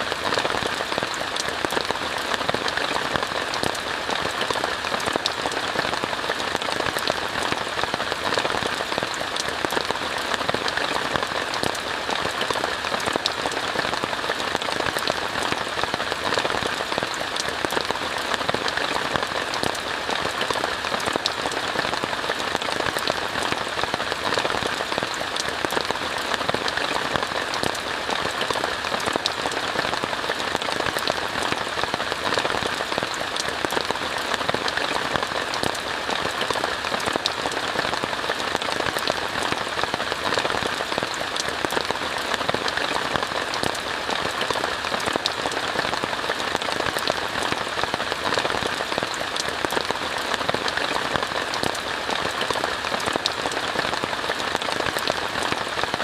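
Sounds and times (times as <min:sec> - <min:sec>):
rain falling on a tent: 0:00.0 - 0:56.0.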